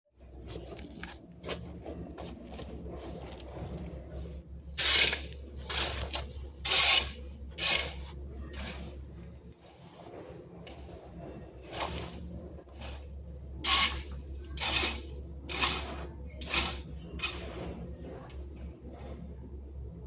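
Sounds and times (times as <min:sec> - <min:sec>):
steady low hum: 0:00.2 - 0:20.0
rasping scrapes: 0:00.4 - 0:19.3.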